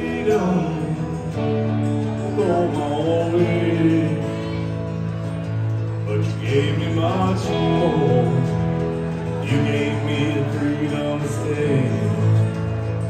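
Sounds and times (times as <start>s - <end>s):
acoustic guitar strumming: 0.0s - 13.0s
fiddle melody: 0.0s - 13.0s.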